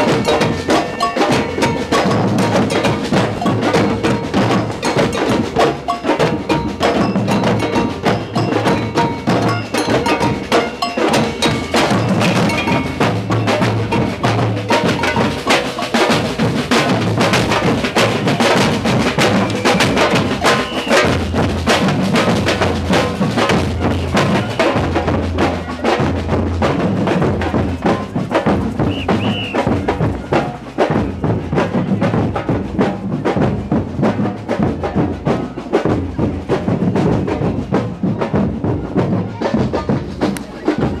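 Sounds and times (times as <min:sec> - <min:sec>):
rapid snare drum strokes: 0:00.0 - 0:41.0.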